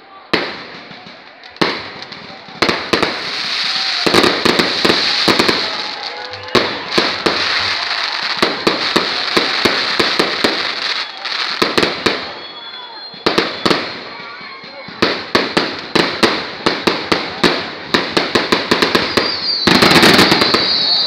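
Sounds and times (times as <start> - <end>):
fireworks bangs: 0.2 - 21.0
fireworks crackle: 0.4 - 21.0.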